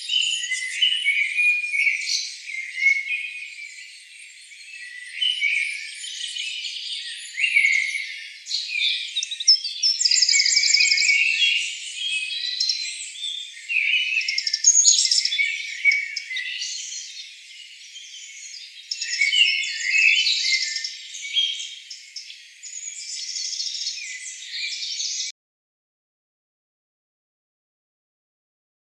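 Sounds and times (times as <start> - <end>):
small birds singing: 0.0 - 25.3.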